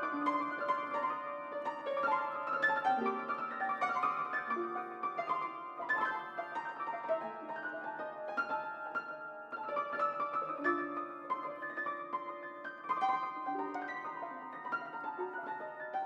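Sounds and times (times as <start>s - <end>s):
solo piano improvisation: 0.0s - 16.0s.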